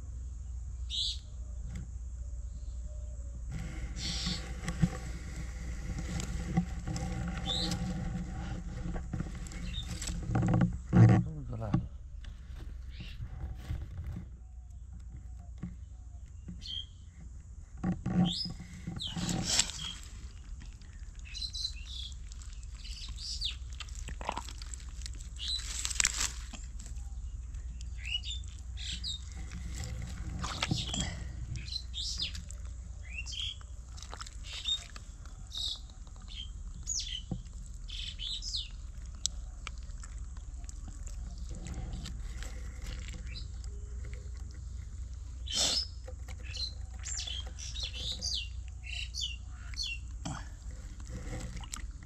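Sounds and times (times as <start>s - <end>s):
small birds chirping: 0.4s - 5.7s, 7.0s - 51.5s.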